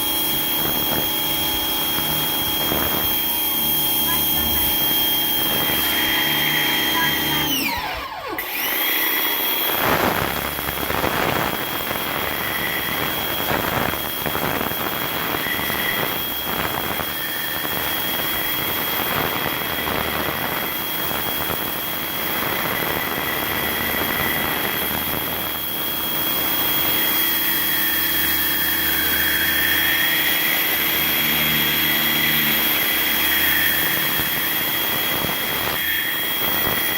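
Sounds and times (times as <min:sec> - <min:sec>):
pressure washer whining: 0:00.0 - 0:36.9.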